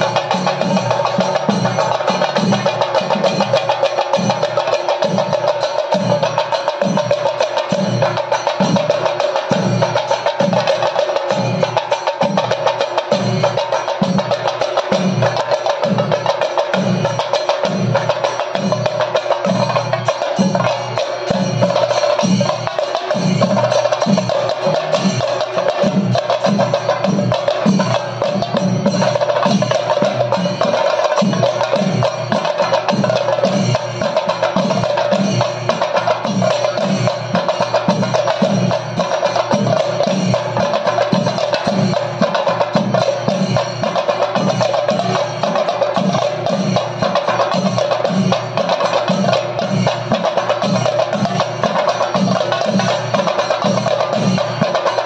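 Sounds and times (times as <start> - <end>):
drum ensemble playing: 0.0 - 55.0.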